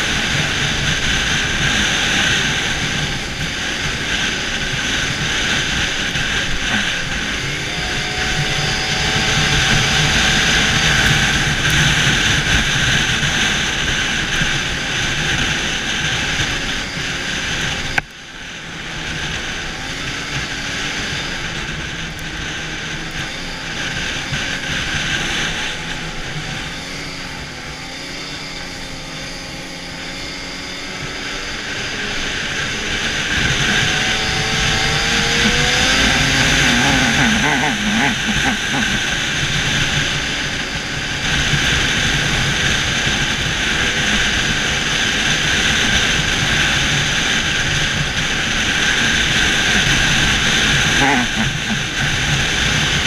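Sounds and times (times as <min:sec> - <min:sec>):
snowmobile engine running: 0:00.0 - 0:53.0.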